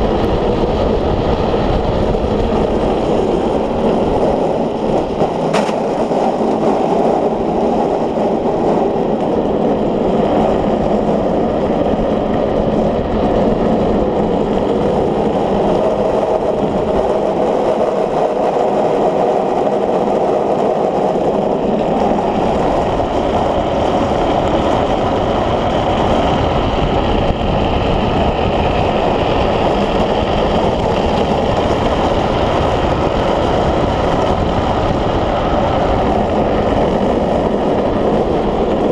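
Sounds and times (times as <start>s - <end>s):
wheels rolling on asphalt: 0.0s - 38.9s
wind noise on microphone: 0.0s - 38.9s.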